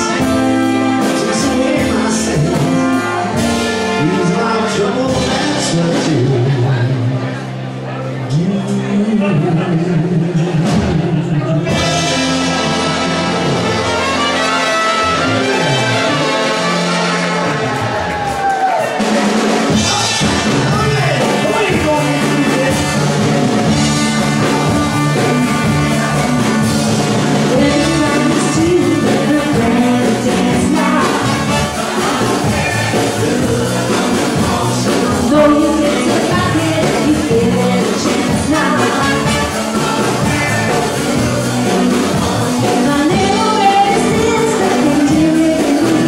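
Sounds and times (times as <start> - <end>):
person singing: 0.0 - 7.4, 8.2 - 18.0, 19.7 - 46.0
band playing upbeat song: 0.0 - 46.0
repeating bass line: 8.4 - 18.4, 19.0 - 46.0.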